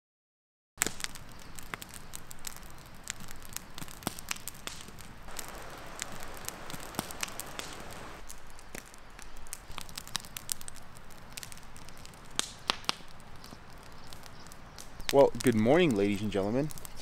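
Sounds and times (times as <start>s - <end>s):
campfire crackling and popping: 0.8s - 17.0s.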